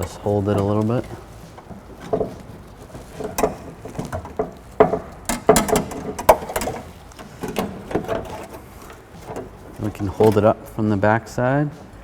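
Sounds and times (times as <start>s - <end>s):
hard parts tapping sheet metal: 0.0s - 10.7s.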